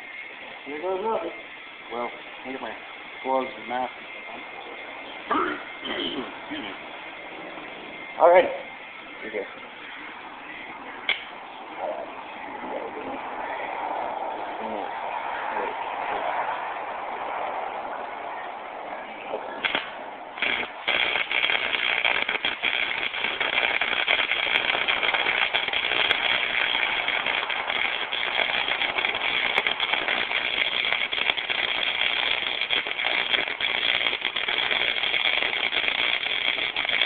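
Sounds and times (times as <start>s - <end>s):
welding arc crackling and hissing: 0.0s - 17.3s, 19.4s - 37.0s.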